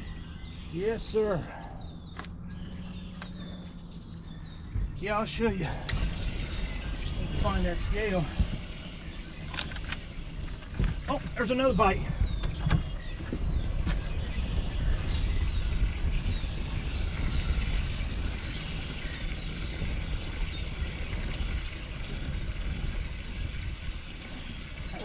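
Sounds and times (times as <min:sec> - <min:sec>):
wind and water rumble: 0:00.0 - 0:25.0.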